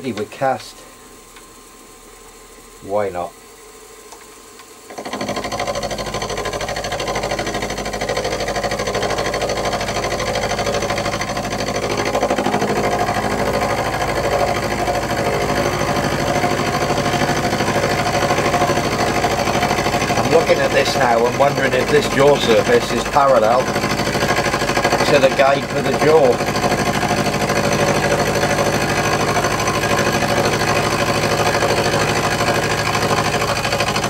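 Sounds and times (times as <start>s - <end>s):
milling cutter machining metal: 0.0s - 34.0s.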